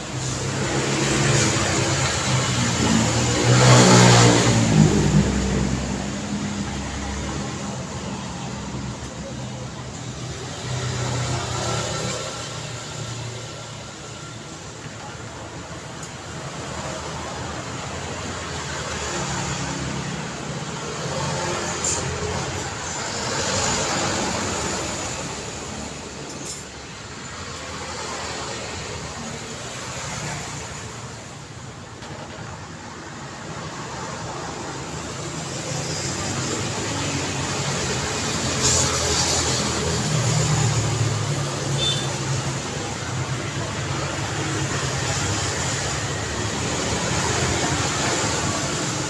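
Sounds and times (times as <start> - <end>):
road traffic hum: 0.0 - 49.0
vehicles passing: 0.0 - 49.0.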